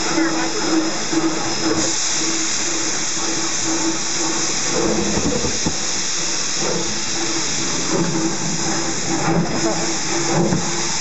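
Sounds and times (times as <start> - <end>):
loud hiss of steam: 0.0 - 11.0.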